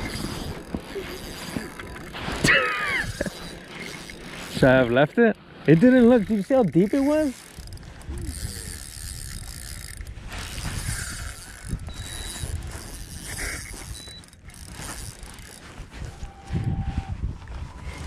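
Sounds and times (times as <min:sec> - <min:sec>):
fishing reel whirring and clicking: 0:00.0 - 0:16.6.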